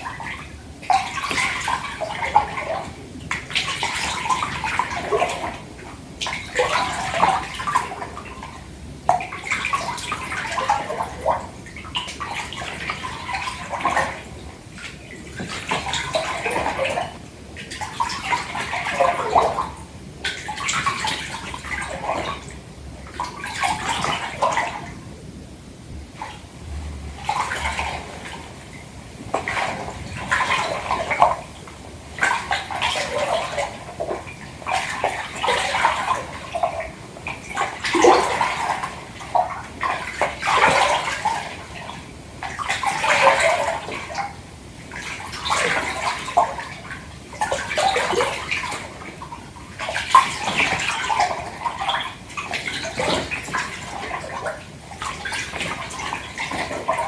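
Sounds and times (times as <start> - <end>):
bath water sloshing: 0.0 - 25.2, 26.0 - 57.0.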